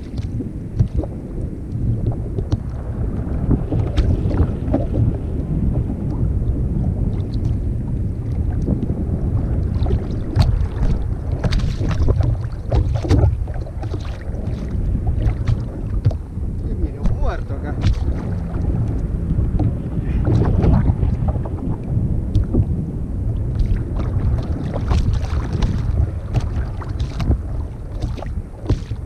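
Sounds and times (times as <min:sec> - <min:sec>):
water slapping against kayak hull: 0:00.0 - 0:29.0
wind buffeting microphone: 0:00.0 - 0:29.0.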